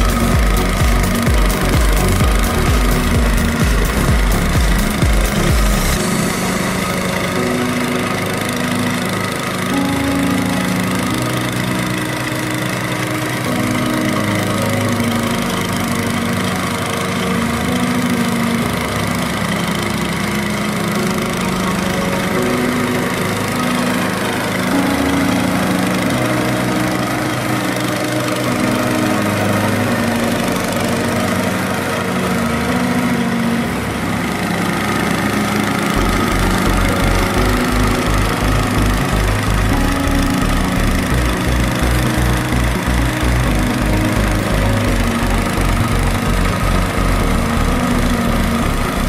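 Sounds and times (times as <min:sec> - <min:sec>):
mulcher engine running: 0:00.0 - 0:49.0.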